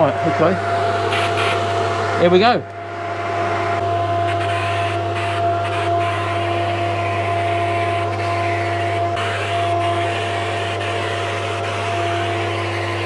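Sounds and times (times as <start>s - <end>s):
extraction fan humming: 0.0s - 13.0s.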